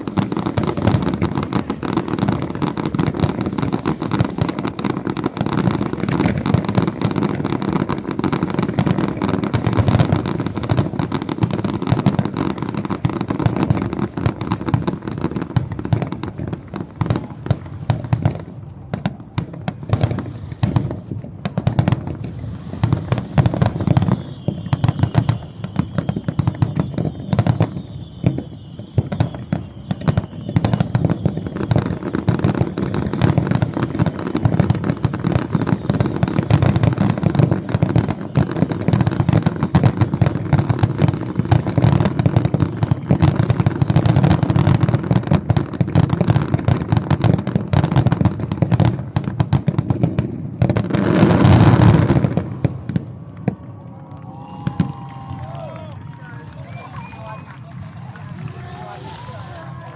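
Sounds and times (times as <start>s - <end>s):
deep firework booms: 0.0s - 55.9s
firework bangs and crackling: 0.0s - 59.9s
high firework whistle: 0.0s - 59.9s.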